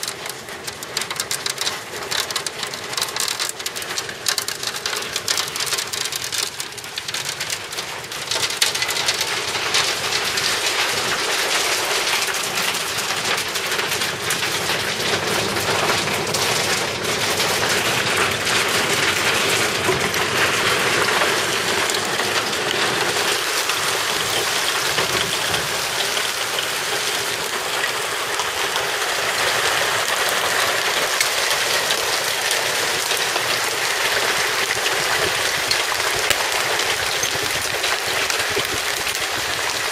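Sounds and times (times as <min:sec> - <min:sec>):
hail and heavy rain pelting: 0:00.0 - 0:39.9.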